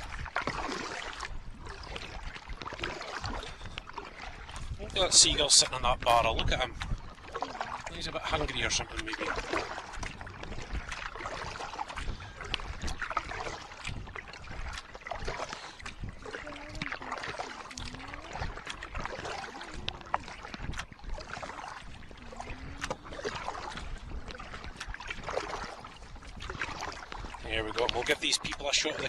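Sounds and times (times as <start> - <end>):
paddle strokes splashing: 0.0 - 29.0.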